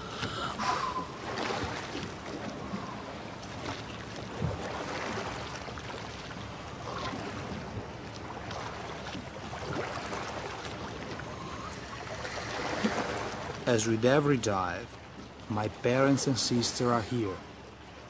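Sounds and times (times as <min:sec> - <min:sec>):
water wash: 0:00.0 - 0:17.4
faint splashes: 0:00.0 - 0:18.0.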